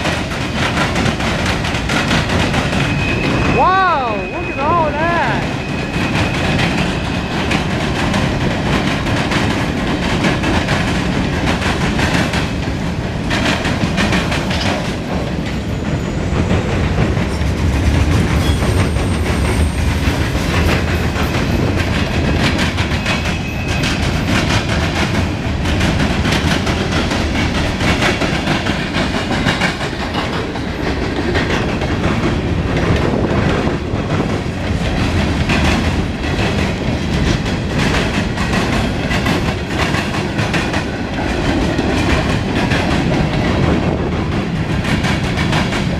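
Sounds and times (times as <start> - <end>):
train wheels clicking over rail joints: 0.0 - 3.6, 5.4 - 45.9
freight train rolling past: 0.0 - 45.9.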